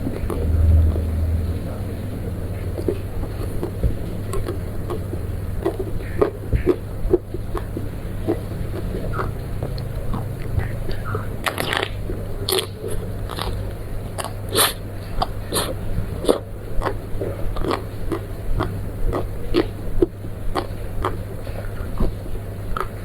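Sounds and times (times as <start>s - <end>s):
crunchy snack chewing: 0.0s - 23.0s
steady low hum: 0.0s - 23.0s.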